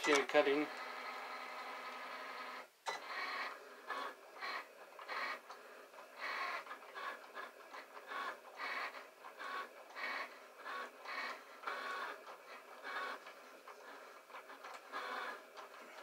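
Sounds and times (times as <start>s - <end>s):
vinyl cutter motors whirring: 0.0s - 16.0s.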